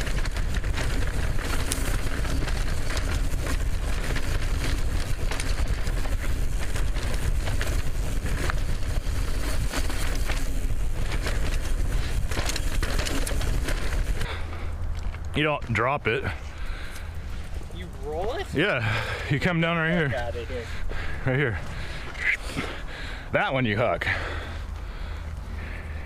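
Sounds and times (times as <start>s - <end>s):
bike rattling over rocks: 0.0s - 26.0s.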